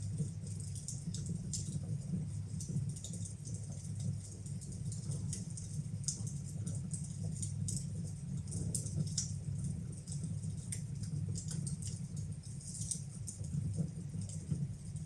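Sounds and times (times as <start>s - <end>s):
fire crackling and popping: 0.0s - 15.0s
low fire rumble: 0.0s - 15.0s.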